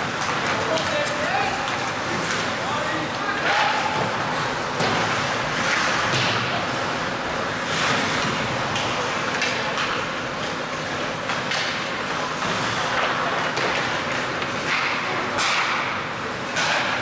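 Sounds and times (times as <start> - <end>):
hockey sticks and puck knocking: 0.0 - 6.5, 7.7 - 10.1, 11.2 - 17.0
ice rink background noise: 0.0 - 17.0.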